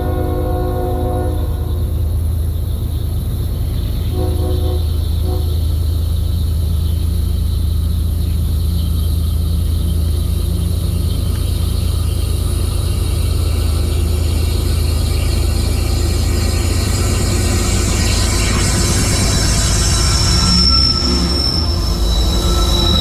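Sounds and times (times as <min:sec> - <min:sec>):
diesel locomotive engine rumble: 0:00.0 - 0:23.0
steel wheels hissing on rails: 0:00.0 - 0:23.0.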